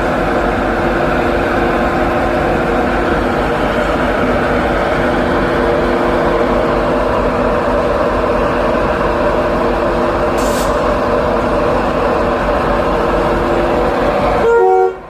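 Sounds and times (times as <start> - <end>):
train rushing past: 0.0 - 15.0.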